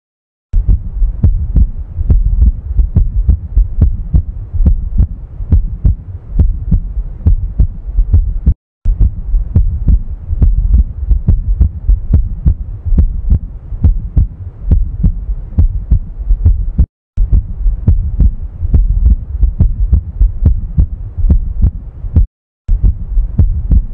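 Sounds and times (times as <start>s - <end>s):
low heartbeat thumps: 0.6s - 23.9s.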